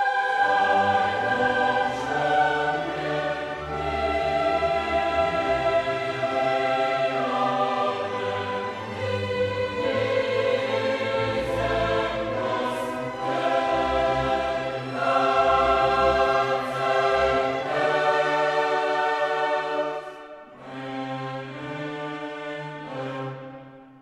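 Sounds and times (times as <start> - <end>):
choir singing sustained chords: 0.0 - 24.0
orchestral music: 0.0 - 24.0.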